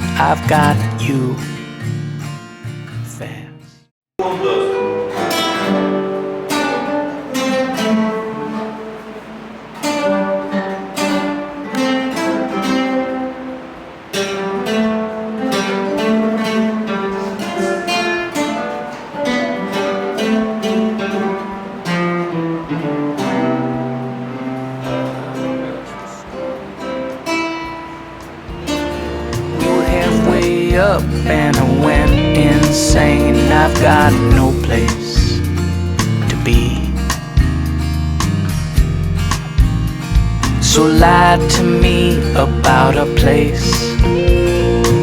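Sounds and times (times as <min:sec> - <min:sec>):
acoustic guitar playing: 0:00.0 - 0:45.0.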